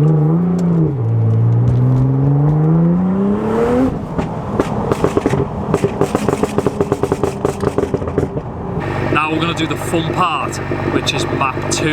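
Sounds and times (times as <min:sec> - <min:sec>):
car engine pulling hard: 0:00.0 - 0:11.9
exhaust crackling: 0:00.0 - 0:11.9.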